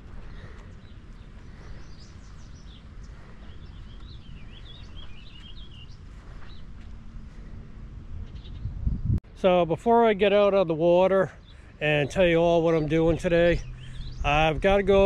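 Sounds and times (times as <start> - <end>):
bird singing: 0.0 - 7.4, 8.2 - 15.0
low outdoor rumble: 0.0 - 15.0.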